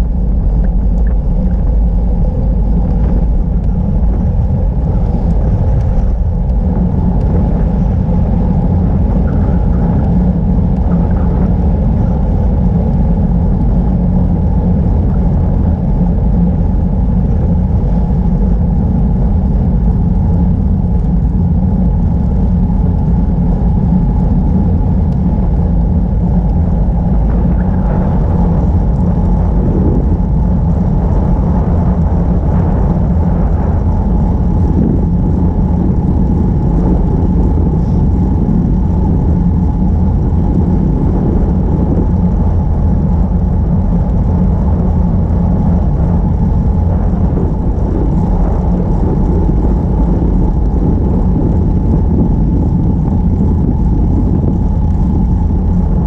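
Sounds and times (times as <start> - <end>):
bicycle road noise: 0.0 - 56.0
wind rumble: 0.0 - 56.0.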